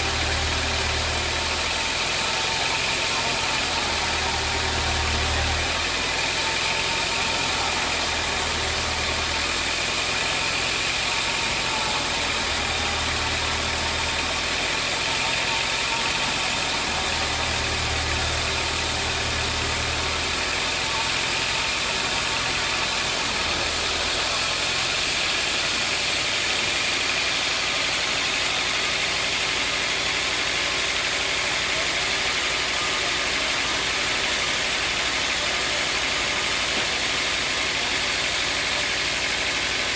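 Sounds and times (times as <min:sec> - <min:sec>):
sawmill machinery din: 0:00.0 - 0:39.9.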